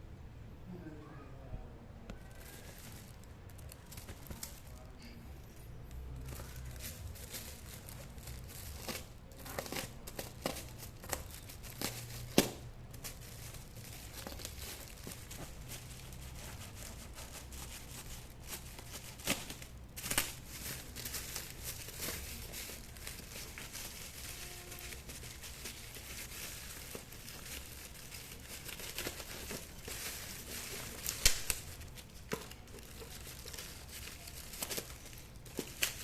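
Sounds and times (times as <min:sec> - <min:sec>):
wrapping crinkling and tearing: 0:02.1 - 0:05.0, 0:06.0 - 0:36.0.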